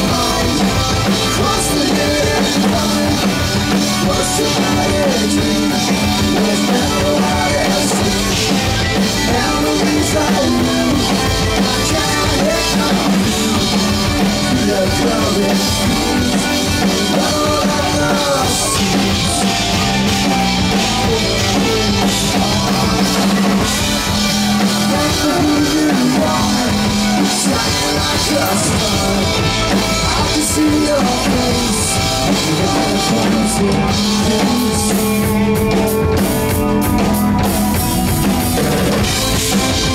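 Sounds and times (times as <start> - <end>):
bass guitar: 0.0 - 39.9
drum kit: 0.0 - 39.9
electric guitar: 0.0 - 39.9
rock band playing live: 0.0 - 39.9.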